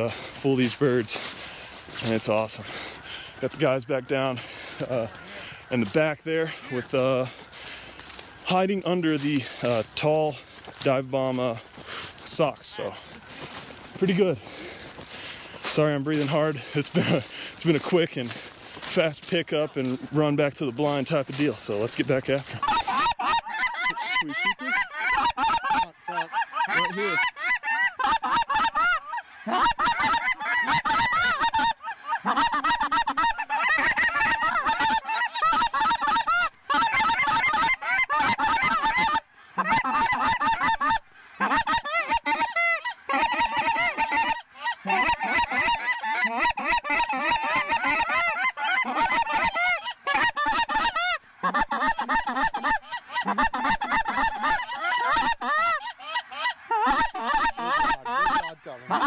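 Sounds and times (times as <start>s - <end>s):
geese honking: 0.0s - 59.0s.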